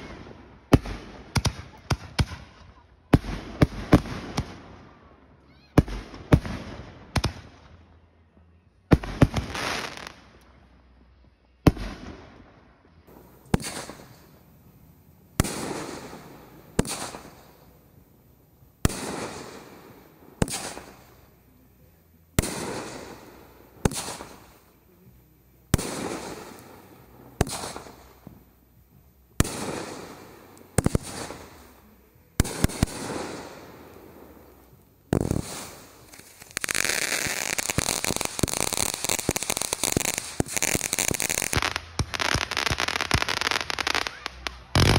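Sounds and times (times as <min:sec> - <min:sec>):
fireworks bursting with echoing bangs: 0:00.0 - 0:04.8, 0:05.8 - 0:07.6, 0:08.9 - 0:10.2, 0:11.7 - 0:12.5, 0:13.1 - 0:44.9.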